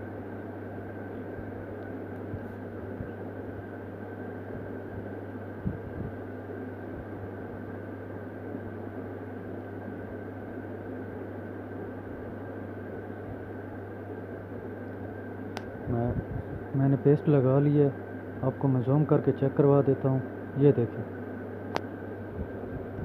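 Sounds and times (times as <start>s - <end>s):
background hum and whir: 0.0s - 23.0s.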